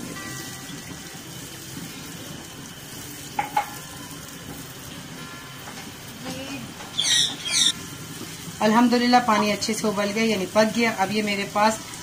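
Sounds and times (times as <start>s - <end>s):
water sizzling in hot oil: 0.0s - 12.0s.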